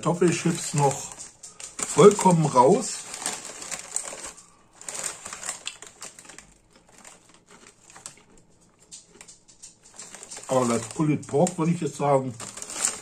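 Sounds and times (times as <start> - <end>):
potato crisps crackling: 0.0 - 13.0.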